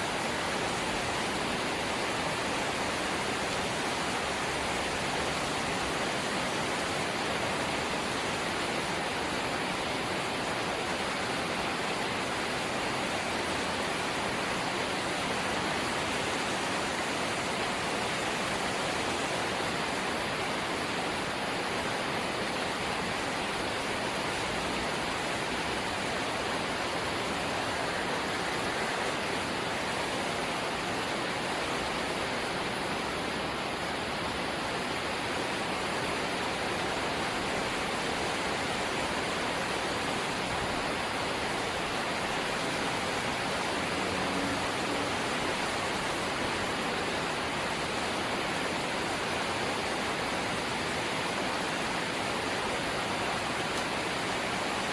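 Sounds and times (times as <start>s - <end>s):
light rain hissing: 0.0s - 54.9s.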